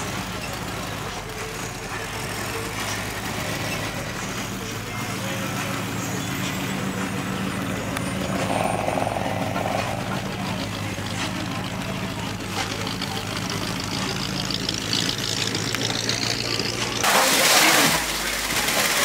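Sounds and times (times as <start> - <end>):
car engine running at low revs: 0.0 - 17.1.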